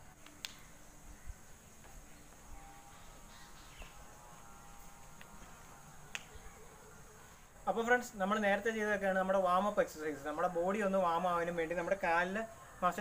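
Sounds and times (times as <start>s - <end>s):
distant bird calls: 0.0s - 13.0s
high insect drone: 0.0s - 13.0s.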